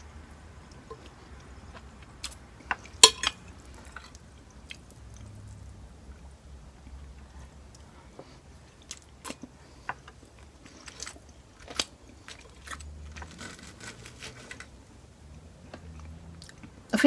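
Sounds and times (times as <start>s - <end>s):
low steady hum: 0.0s - 17.0s
chewing with crunches: 0.6s - 14.6s, 15.3s - 16.8s.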